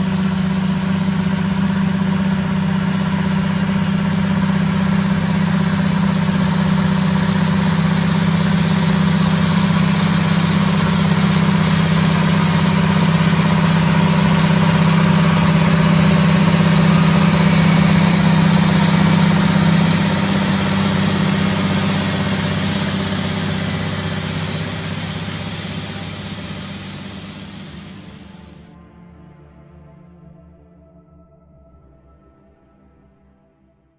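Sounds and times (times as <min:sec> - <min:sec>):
tractor diesel engine droning: 0:00.0 - 0:28.8.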